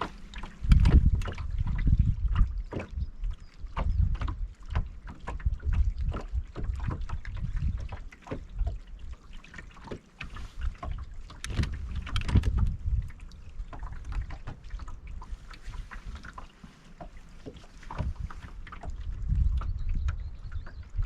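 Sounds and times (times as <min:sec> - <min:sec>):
wind buffeting microphone: 0:00.0 - 0:09.2, 0:10.2 - 0:16.4, 0:17.1 - 0:21.0
waves slapping against boat hull: 0:00.0 - 0:21.0.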